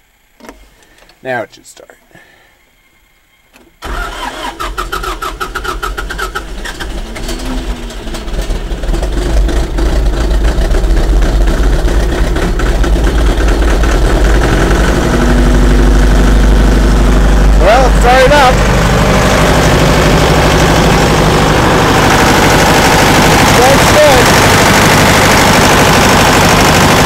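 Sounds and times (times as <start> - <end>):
diesel tractor engine starting: 3.6 - 27.0.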